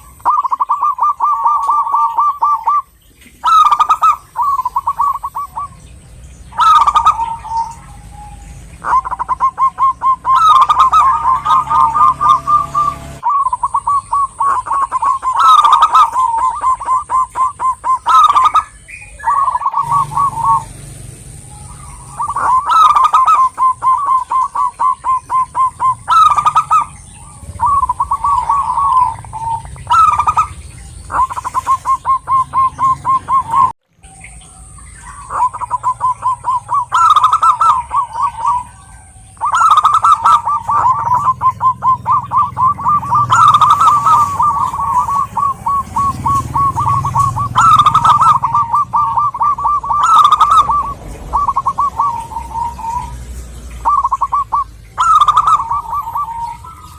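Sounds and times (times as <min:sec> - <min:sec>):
doves cooing in trilled notes: 0:00.0 - 0:56.9.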